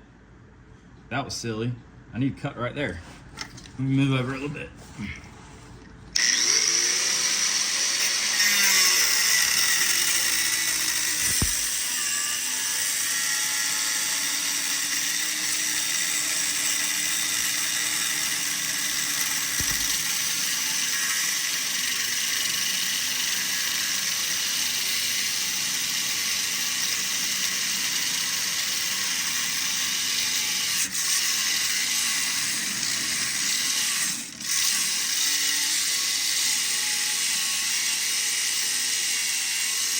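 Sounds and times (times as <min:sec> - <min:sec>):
power tool cutting steel bolt: 0:06.2 - 0:39.9.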